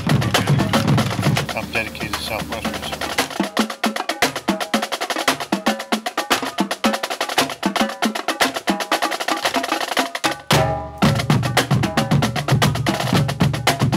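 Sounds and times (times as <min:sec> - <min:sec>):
rhythmic percussion music: 0:00.0 - 0:13.9.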